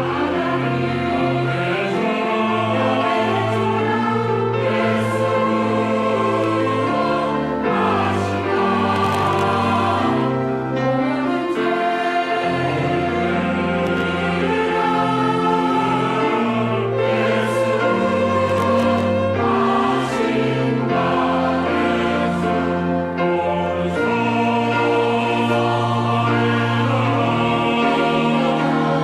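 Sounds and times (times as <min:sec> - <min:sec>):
choir singing in parts: 0:00.0 - 0:29.0.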